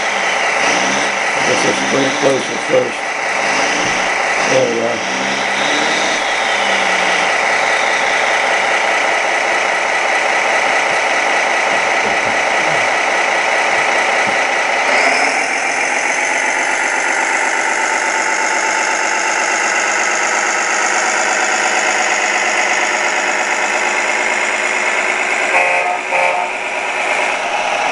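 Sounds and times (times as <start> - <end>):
hydraulic pump drone: 0.0 - 27.9
simulated diesel engine: 0.0 - 27.9.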